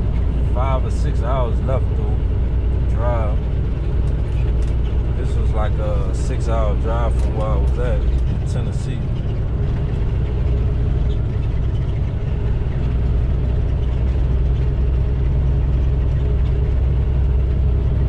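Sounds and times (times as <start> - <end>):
truck diesel engine drone in cab: 0.0 - 18.0.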